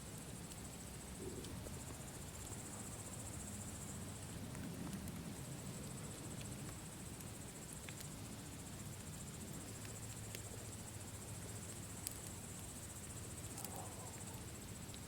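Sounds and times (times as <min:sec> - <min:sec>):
campfire crackling: 0:00.0 - 0:15.0
night insects chirring: 0:00.0 - 0:15.0.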